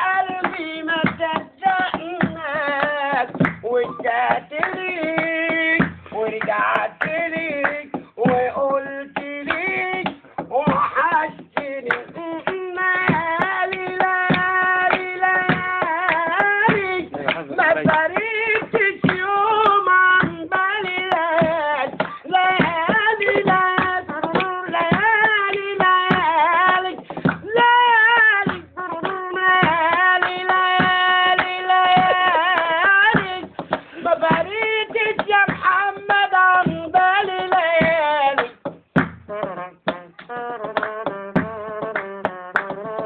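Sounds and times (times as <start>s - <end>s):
hands beating time: 0.0s - 43.0s
man singing unaccompanied: 0.0s - 43.0s.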